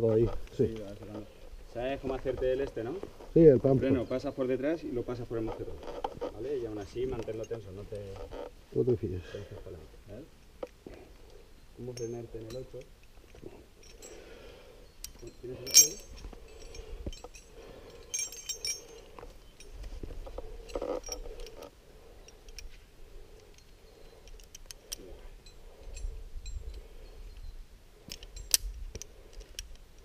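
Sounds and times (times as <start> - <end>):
metal climbing gear clinking: 0.0 - 8.6, 9.4 - 30.0.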